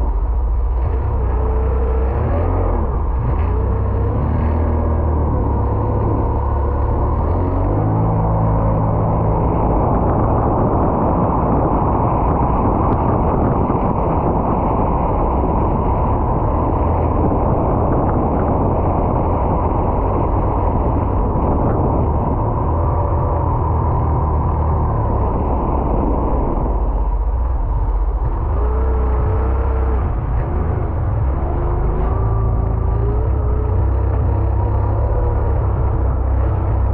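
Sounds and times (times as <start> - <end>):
personal watercraft engine drone: 0.0 - 36.9.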